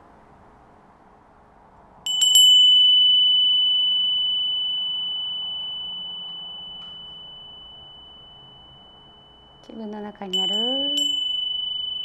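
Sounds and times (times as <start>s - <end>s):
metal chime ringing: 2.1s - 12.0s.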